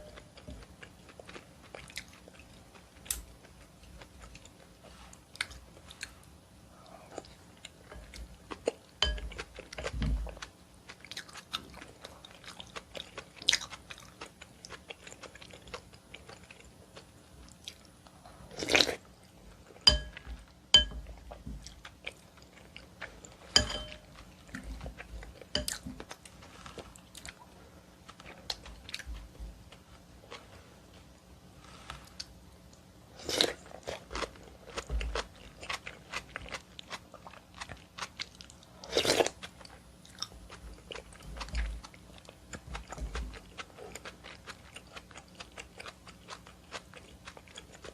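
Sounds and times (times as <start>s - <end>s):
chewing and wet mouth sounds: 0.0s - 17.9s, 19.7s - 30.5s, 32.0s - 47.9s.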